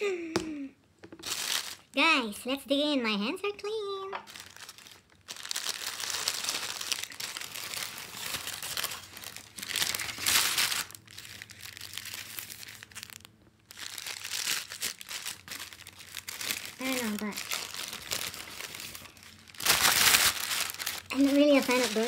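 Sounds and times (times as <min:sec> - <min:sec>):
paper wrapper crinkling: 0:01.1 - 0:01.9, 0:04.2 - 0:22.0.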